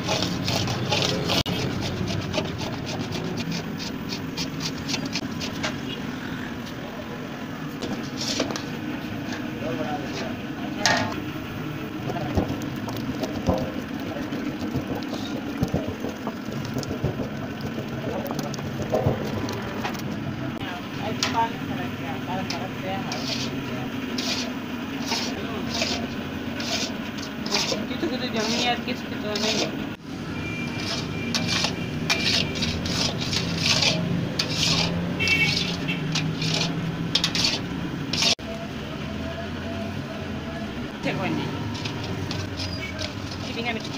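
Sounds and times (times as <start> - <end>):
metal ladle scraping and stirring: 0.0 - 6.0, 7.8 - 11.3, 11.9 - 20.3, 21.0 - 30.0, 30.6 - 38.4, 41.0 - 43.9.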